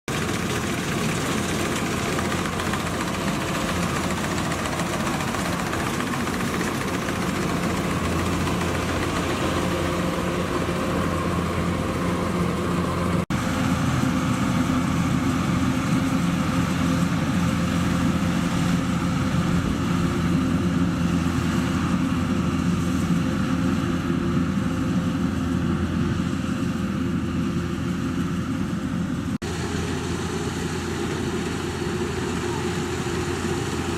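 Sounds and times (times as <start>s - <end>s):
combine harvester engine and threshing: 0.1s - 33.9s.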